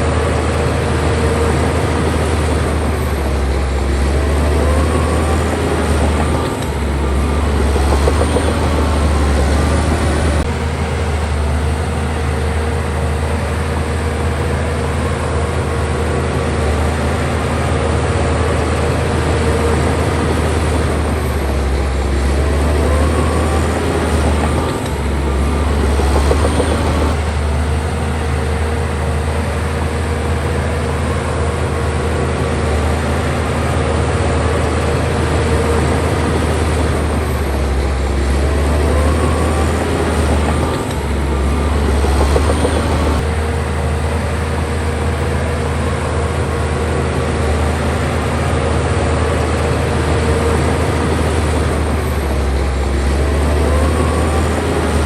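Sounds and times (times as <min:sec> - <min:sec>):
bulldozer diesel engine drone: 0:00.0 - 0:55.0
clatter and rising whine: 0:00.0 - 0:55.0.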